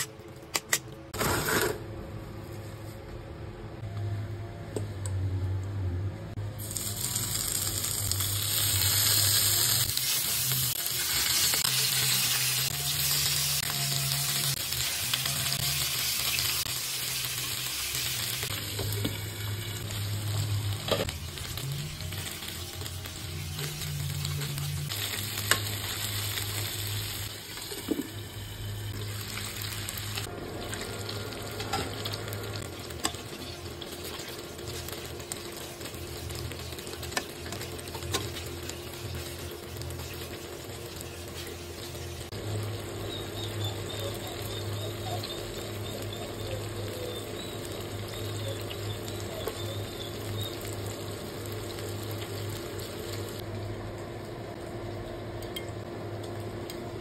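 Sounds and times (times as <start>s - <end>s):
chicken wings sizzling in oil: 6.5s - 57.0s.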